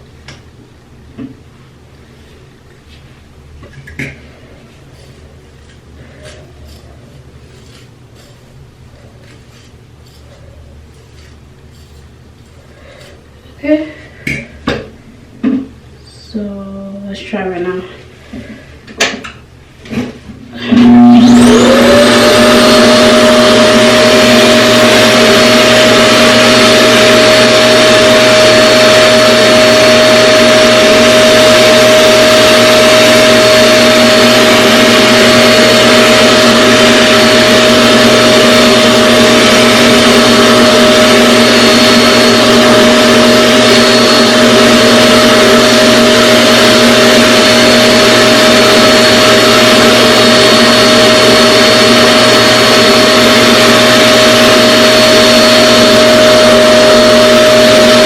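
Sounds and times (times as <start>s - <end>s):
hair dryer running: 4.0s - 13.4s, 20.6s - 58.0s.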